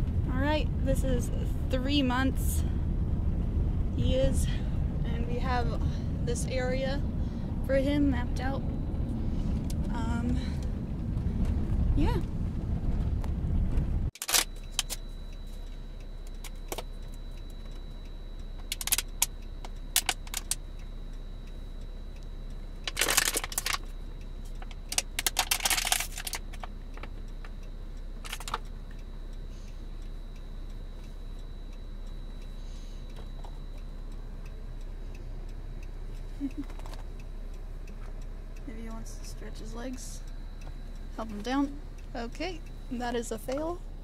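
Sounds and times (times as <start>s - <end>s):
car interior hum: 0.0s - 44.0s
faint high whine: 0.0s - 44.0s.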